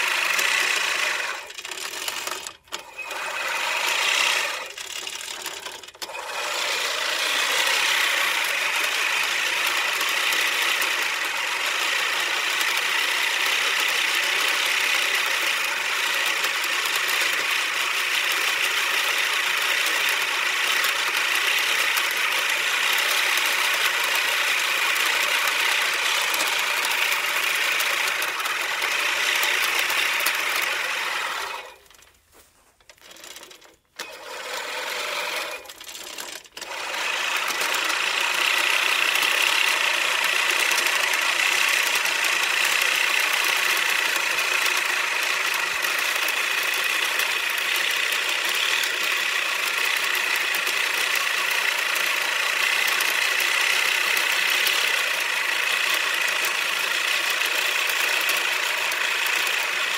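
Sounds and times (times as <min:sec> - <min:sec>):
reel mower whirring: 0:00.0 - 0:59.9.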